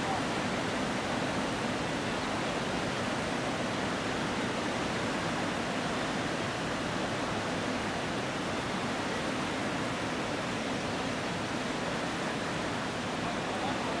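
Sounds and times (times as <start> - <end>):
river water rushing over a weir: 0.0 - 14.0.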